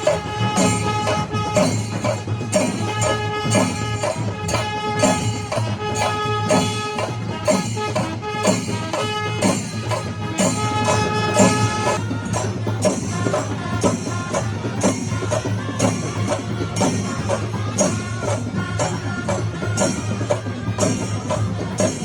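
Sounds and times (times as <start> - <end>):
drumming: 0.0 - 22.0
hand cymbals clashing: 0.0 - 22.0
held horn-like note: 0.0 - 22.0.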